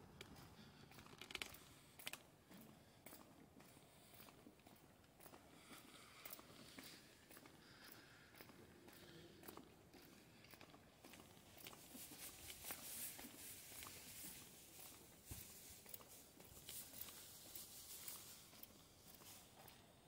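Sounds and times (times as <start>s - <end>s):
footsteps on pavement: 0.0s - 20.0s.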